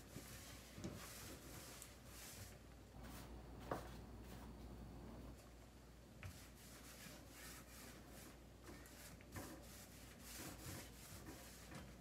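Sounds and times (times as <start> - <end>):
paint roller swishing: 0.0 - 4.5, 6.2 - 12.0.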